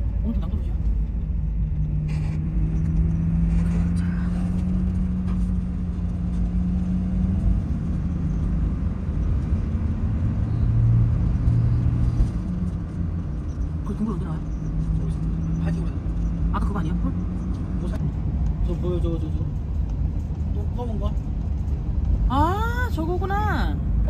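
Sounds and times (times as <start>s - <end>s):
engine hum: 0.0s - 24.0s
road rumble: 0.0s - 24.0s.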